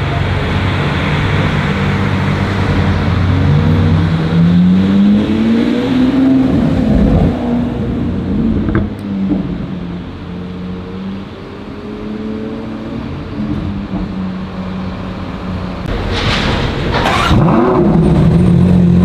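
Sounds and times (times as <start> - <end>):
supercar engine accelerating: 0.0 - 15.9, 17.0 - 19.0.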